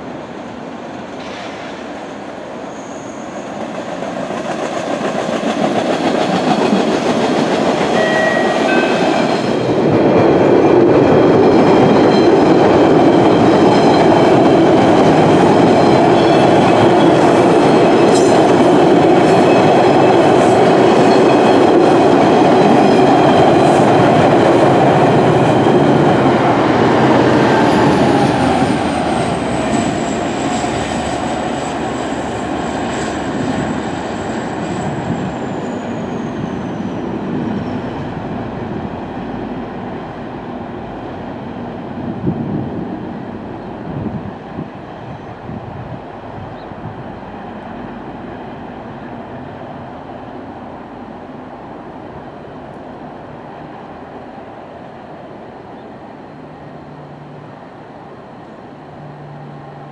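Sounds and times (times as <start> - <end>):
subway train wheels on rail: 0.0 - 59.9.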